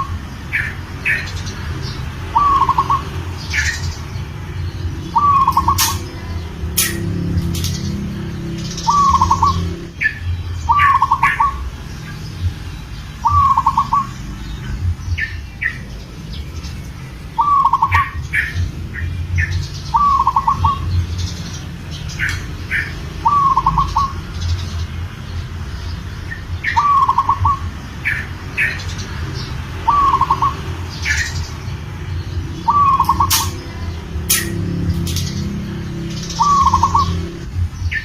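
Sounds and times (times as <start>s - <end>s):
dove cooing: 0.0s - 12.5s, 13.2s - 16.5s, 17.2s - 24.6s, 26.3s - 31.6s, 32.4s - 38.0s
higher bird chirps: 0.0s - 38.0s.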